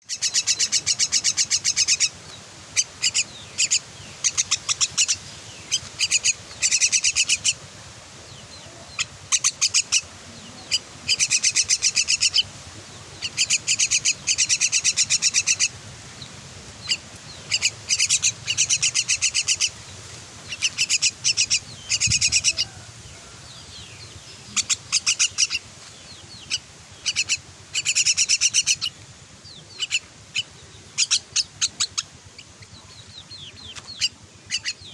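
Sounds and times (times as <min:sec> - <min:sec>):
young bird begging chirps: 0:00.0 - 0:07.6, 0:08.5 - 0:15.8, 0:16.8 - 0:19.8, 0:20.4 - 0:34.9.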